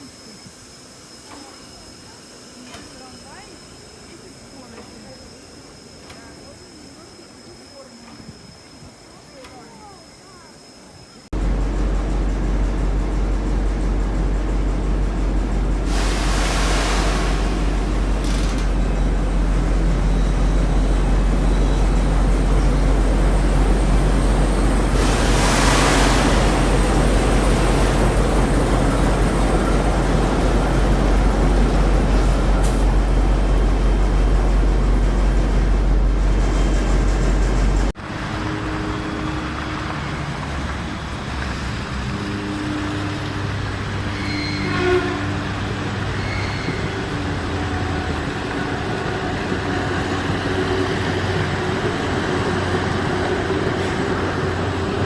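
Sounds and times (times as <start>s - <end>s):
running train rush: 0.0s - 55.0s.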